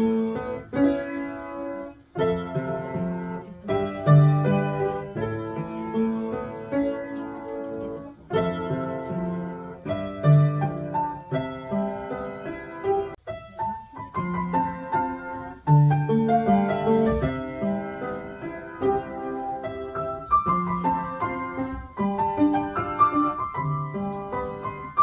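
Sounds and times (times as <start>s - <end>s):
solo piano piece: 0.0s - 25.0s.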